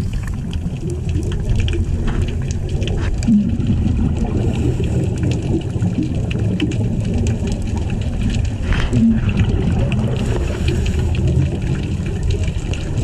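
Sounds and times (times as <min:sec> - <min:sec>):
sharp clicks and crackles: 0:00.0 - 0:13.0
underwater rumble of moving water: 0:00.0 - 0:13.0.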